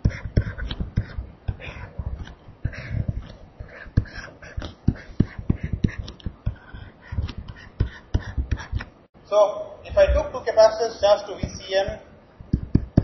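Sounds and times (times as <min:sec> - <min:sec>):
stylus tapping on tablet screen: 0:00.0 - 0:08.9, 0:11.4 - 0:13.0.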